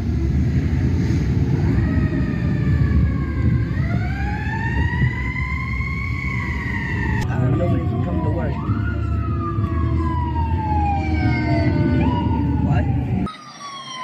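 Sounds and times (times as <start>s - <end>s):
low rumble: 0.0s - 13.3s
fire truck siren wailing: 0.0s - 14.0s.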